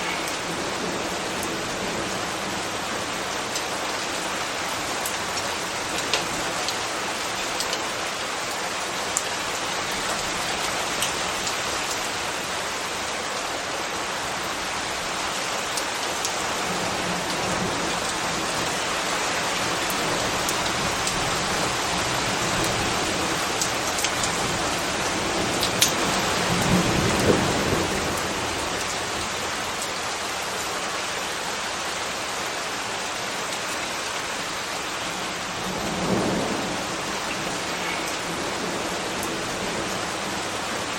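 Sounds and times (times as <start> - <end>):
rain pattering on hard surfaces: 0.0 - 40.9.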